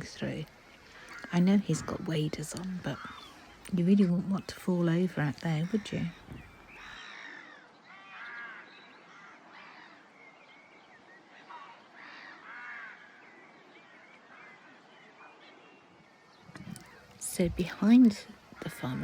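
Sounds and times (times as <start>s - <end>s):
birds harsh calls: 0.0s - 19.0s.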